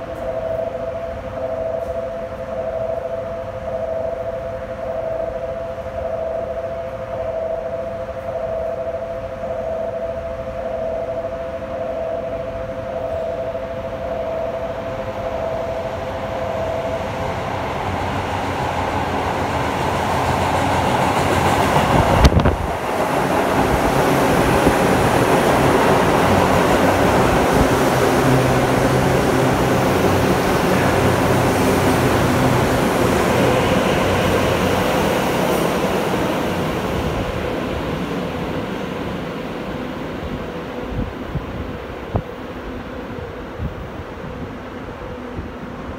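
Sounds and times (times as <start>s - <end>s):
loud blast of train arriving: 0.0s - 45.9s
train passing at speed: 0.0s - 45.9s
wheels rumbling on rails: 0.0s - 45.9s.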